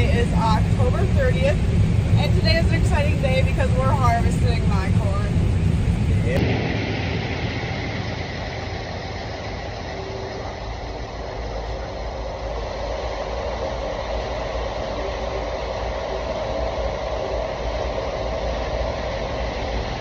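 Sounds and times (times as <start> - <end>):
combine harvester drone: 0.0 - 20.0
steady tones: 0.0 - 20.0.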